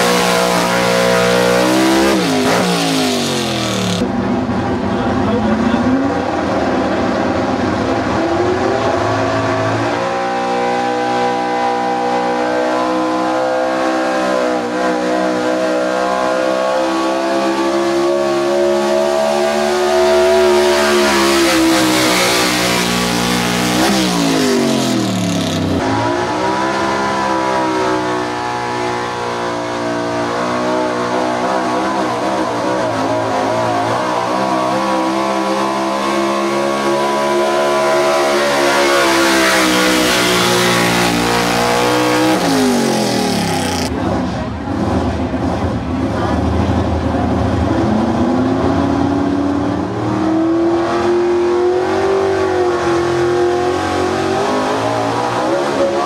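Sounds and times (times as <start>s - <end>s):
truck engine at full throttle: 0.0s - 56.0s.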